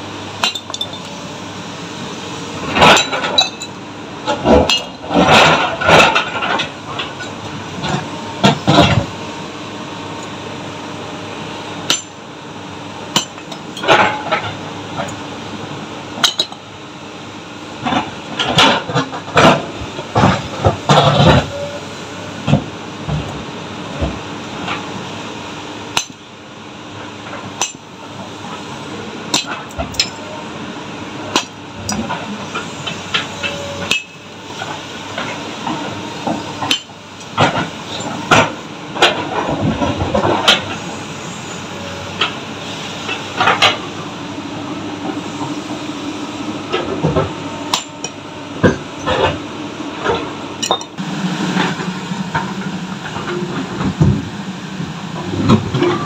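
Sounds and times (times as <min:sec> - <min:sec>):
steady engine drone: 0:00.0 - 0:56.0.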